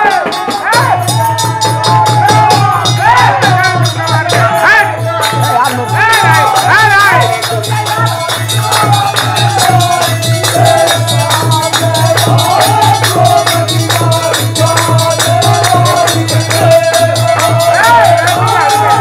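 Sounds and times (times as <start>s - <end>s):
hand claps: 0.0s - 19.0s
jingling percussion: 0.0s - 19.0s.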